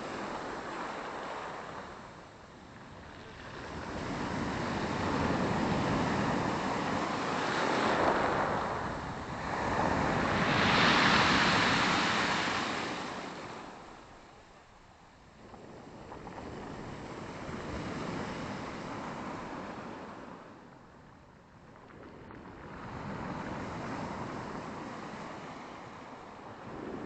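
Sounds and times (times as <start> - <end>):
waves breaking on shore: 0.0 - 27.0.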